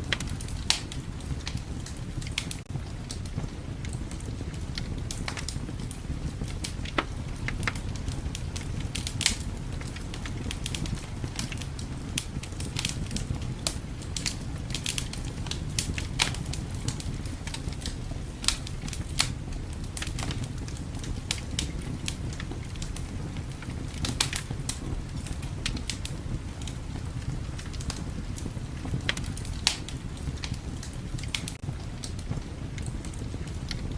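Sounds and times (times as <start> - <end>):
wind rumbling: 0.0 - 33.9
wood fire crackling: 0.0 - 33.9.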